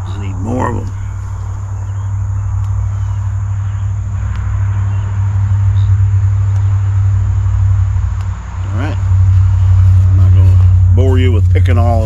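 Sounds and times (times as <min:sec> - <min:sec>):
insects trilling: 0:00.0 - 0:12.0
loud low hum: 0:00.0 - 0:12.0.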